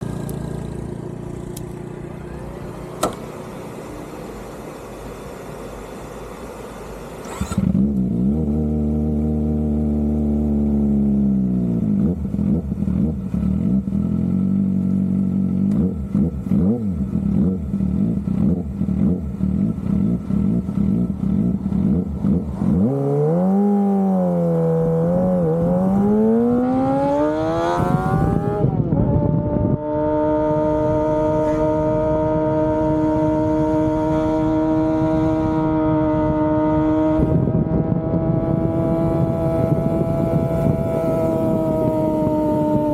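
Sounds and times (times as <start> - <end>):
motorcycle engine revving: 7.2 - 42.9.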